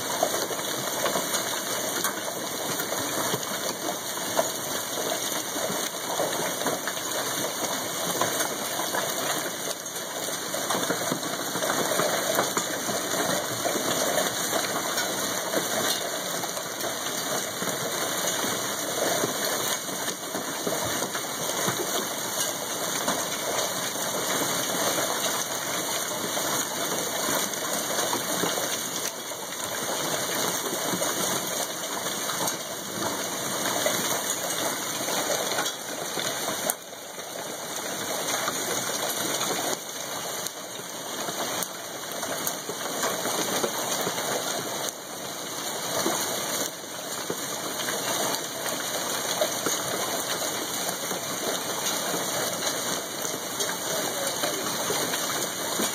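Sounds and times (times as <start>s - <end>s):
hail and heavy rain pouring: 0.0s - 55.9s.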